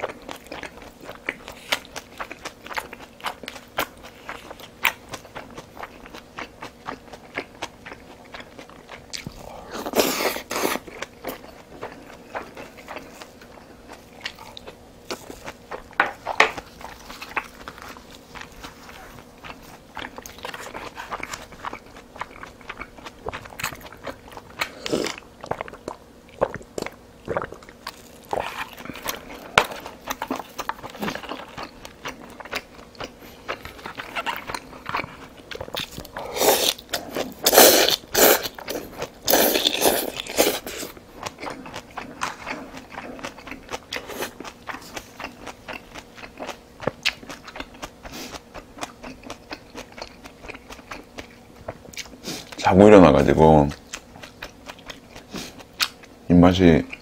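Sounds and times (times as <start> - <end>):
person chewing: 0.0 - 52.7, 53.6 - 56.2.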